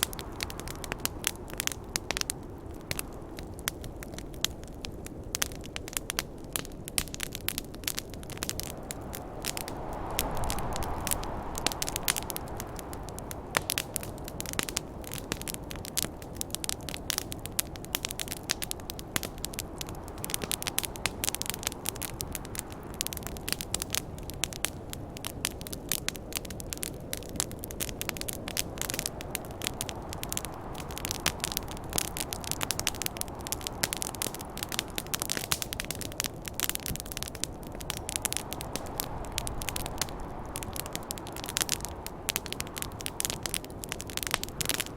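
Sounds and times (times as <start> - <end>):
wood fire crackling: 0.0 - 44.9
snowstorm wind rushing: 6.9 - 44.9.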